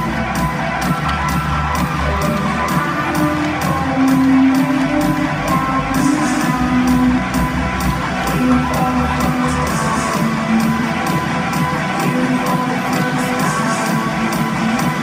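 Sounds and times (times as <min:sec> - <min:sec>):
rock music over sound system: 0:00.0 - 0:15.0.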